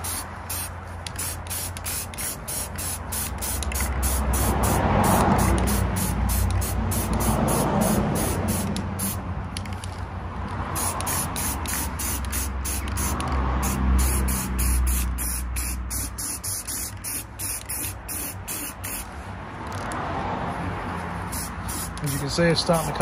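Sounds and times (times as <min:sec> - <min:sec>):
aerosol can spraying hiss: 0:00.0 - 0:09.2, 0:10.7 - 0:19.1, 0:21.2 - 0:23.0.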